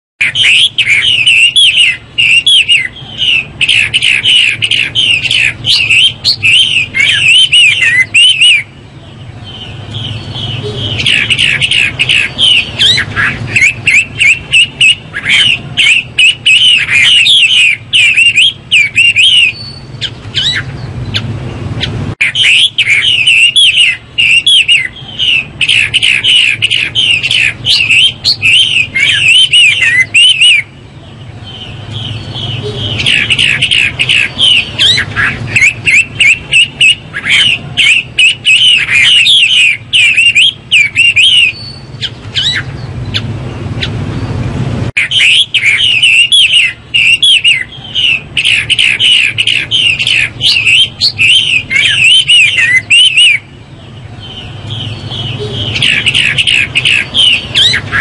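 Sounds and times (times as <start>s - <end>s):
bird singing rapid varied notes: 0.2s - 58.0s.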